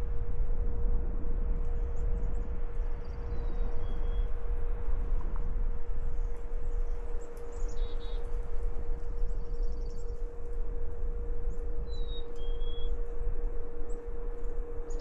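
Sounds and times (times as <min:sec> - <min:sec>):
constant whine: 0:00.0 - 0:15.0.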